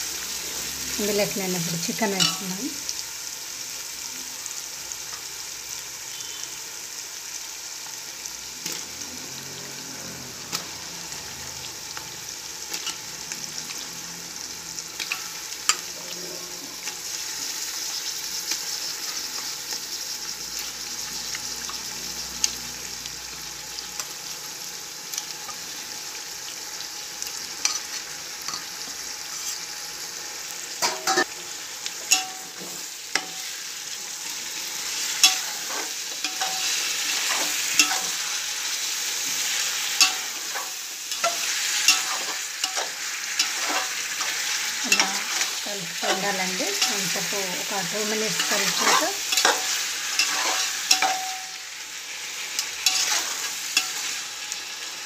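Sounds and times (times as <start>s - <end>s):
food sizzling in oil: 0.0s - 55.0s.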